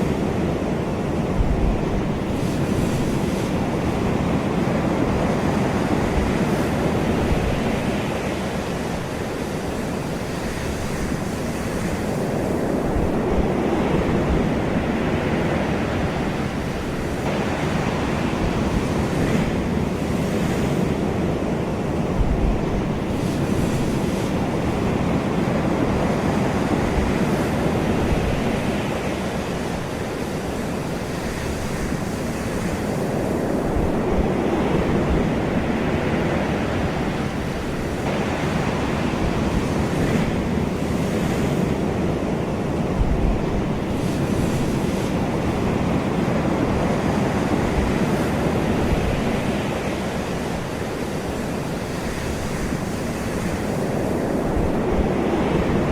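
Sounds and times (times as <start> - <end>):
ocean waves breaking on shore: 0.0 - 55.9
wind noise: 0.0 - 55.9.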